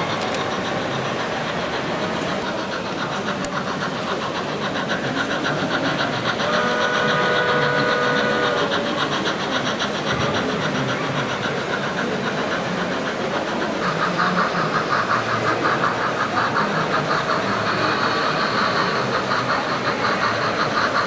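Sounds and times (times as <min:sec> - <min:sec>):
model train whirring and clicking: 0:00.0 - 0:21.0.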